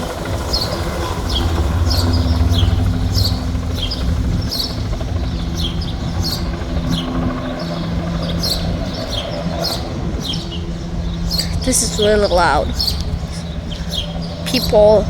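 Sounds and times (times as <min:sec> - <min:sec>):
helicopter rotor drone: 0:00.0 - 0:15.0
small birds chirping: 0:00.0 - 0:15.0.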